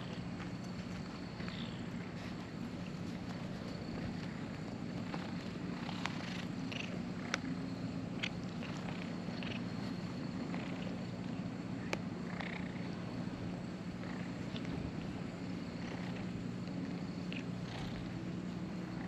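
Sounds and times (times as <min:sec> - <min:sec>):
cats purring: 0:00.0 - 0:19.0.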